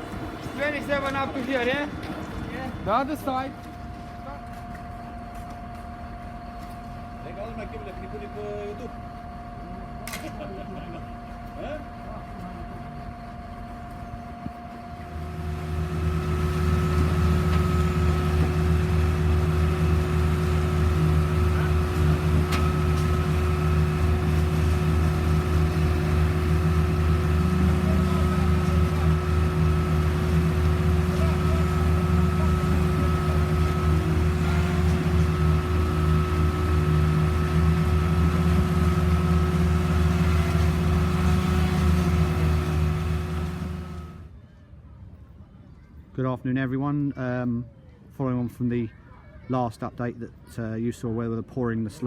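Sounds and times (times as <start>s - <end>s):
pump engine low hum: 0.0s - 44.3s
steady high whine: 0.0s - 44.6s.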